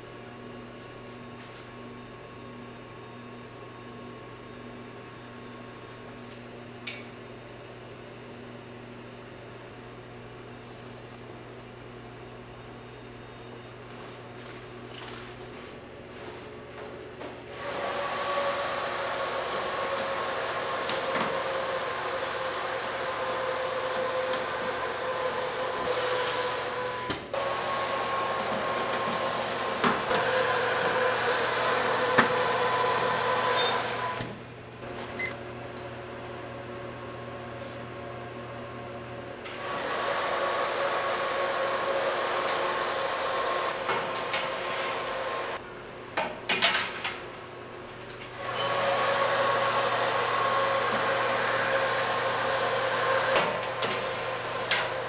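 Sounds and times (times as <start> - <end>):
oven fan humming: 0.0 - 55.0.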